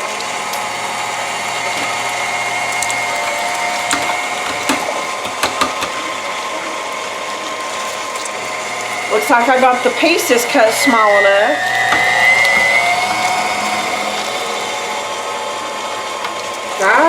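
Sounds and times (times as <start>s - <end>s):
stand mixer motor whine: 0.0s - 17.0s.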